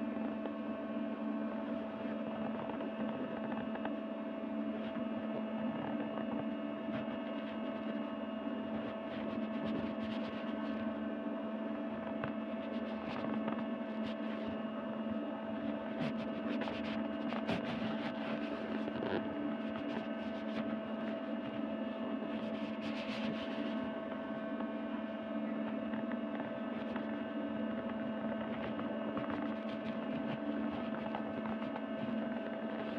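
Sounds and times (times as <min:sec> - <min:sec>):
droning hum: 0:00.0 - 0:32.9.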